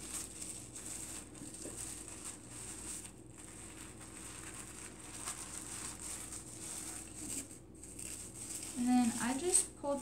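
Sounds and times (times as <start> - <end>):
tissue paper rustling: 0.0 - 10.0.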